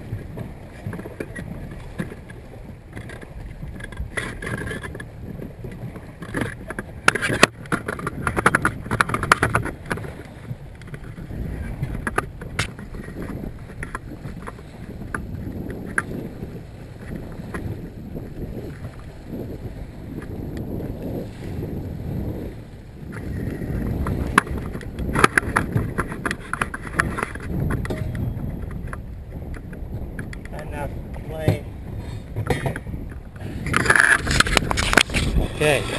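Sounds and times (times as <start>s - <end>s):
water slapping boat hull: 0.0s - 35.9s
wind on camera: 0.0s - 35.9s.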